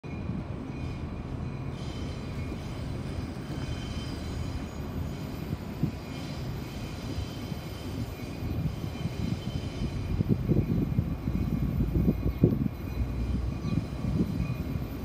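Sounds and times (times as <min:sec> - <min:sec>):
distant train rumbling: 0:00.0 - 0:15.0
faint high squealing: 0:00.1 - 0:15.0.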